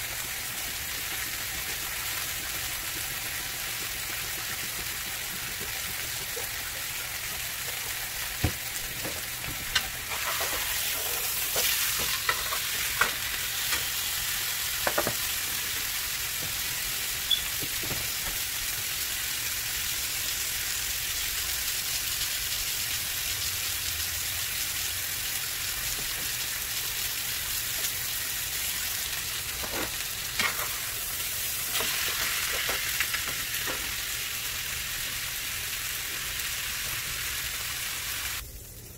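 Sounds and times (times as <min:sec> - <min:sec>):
steak sizzling in frying pan: 0:00.0 - 0:38.9.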